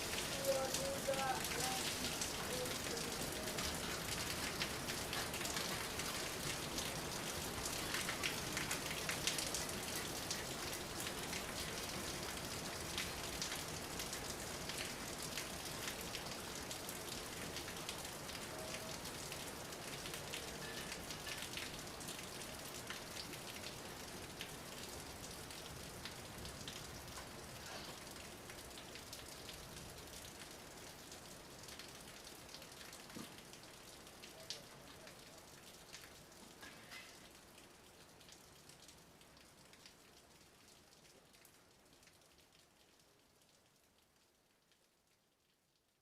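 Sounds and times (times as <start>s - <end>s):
raindrops striking close by: 0.0s - 46.0s
steady rain: 0.0s - 46.0s.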